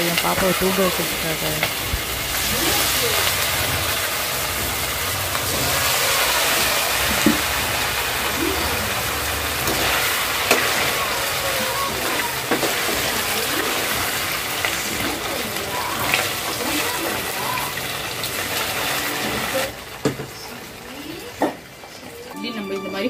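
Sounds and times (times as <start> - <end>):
food sizzling in hot oil: 0.0 - 21.8.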